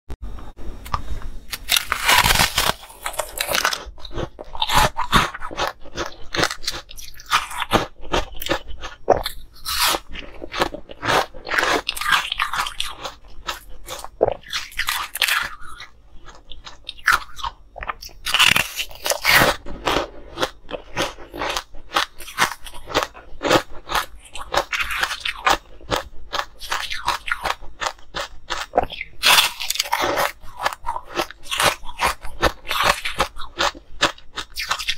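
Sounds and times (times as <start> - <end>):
crunching and chewing ice: 1.5 - 34.9.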